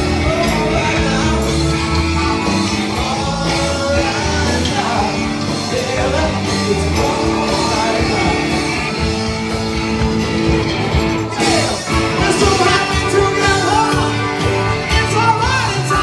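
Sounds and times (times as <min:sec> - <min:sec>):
lead vocalist singing: 0:00.0 - 0:09.4, 0:11.3 - 0:16.0
drums: 0:00.0 - 0:16.0
electric guitars: 0:00.0 - 0:16.0
keyboard: 0:00.0 - 0:16.0.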